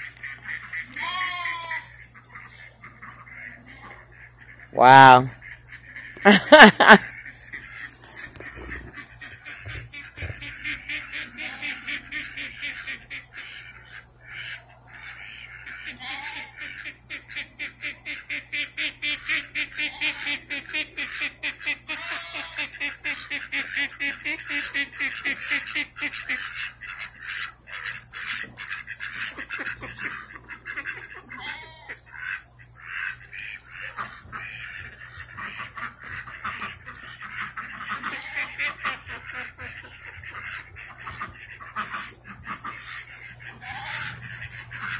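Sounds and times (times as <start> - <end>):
ducks quacking: 0.0 - 44.9.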